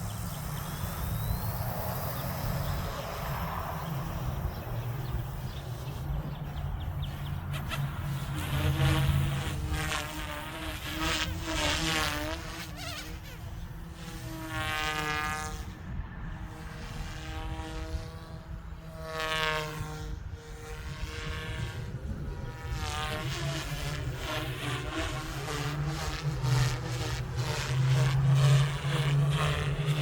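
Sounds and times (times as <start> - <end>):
rc helicopter rotor whine: 0.0 - 30.0.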